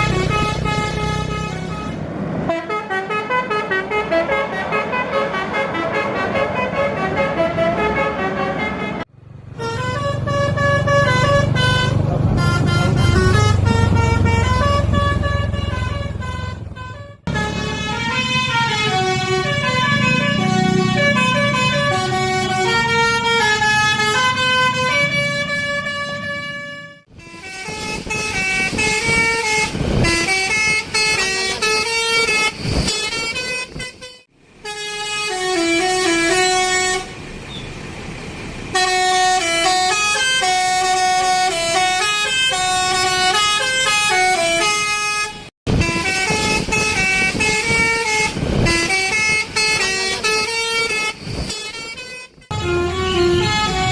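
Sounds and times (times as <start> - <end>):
multi-tone musical air horns: 0.0 - 37.2, 38.7 - 53.9.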